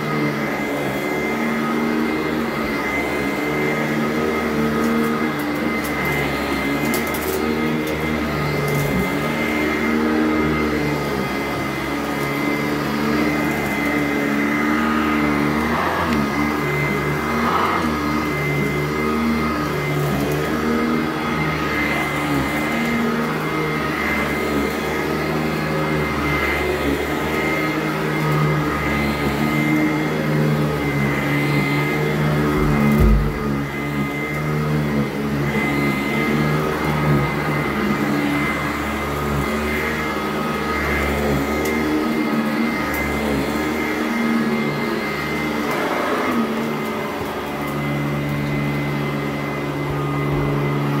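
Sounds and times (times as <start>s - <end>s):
upright vacuum running on carpet: 0.0s - 51.0s.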